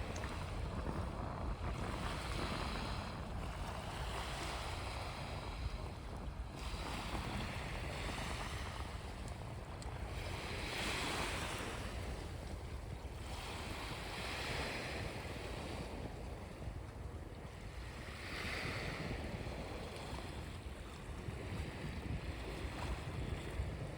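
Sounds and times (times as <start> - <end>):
small waves breaking on beach: 0.0 - 23.9
wind rumble on microphone: 0.0 - 23.9.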